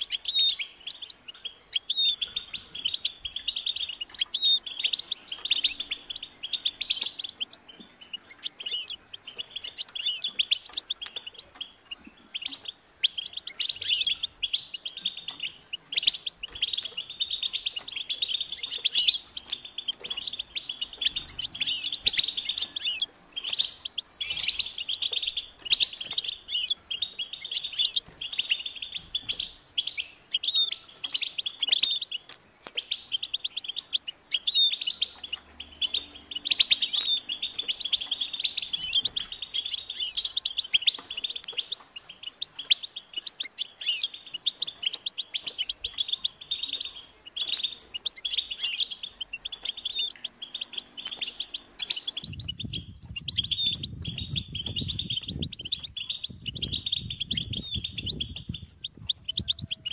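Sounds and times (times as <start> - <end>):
goldfinch singing: 0.0 - 59.9.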